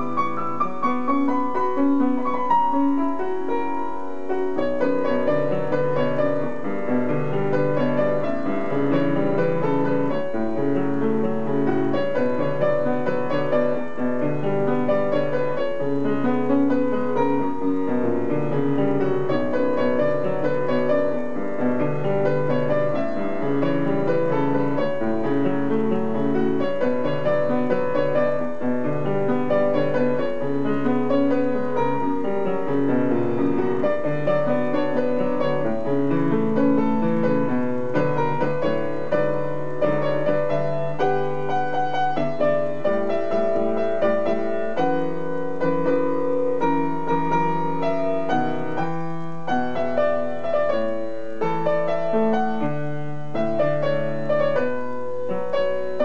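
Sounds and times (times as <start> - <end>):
slow piano ballad: 0.0 - 56.0.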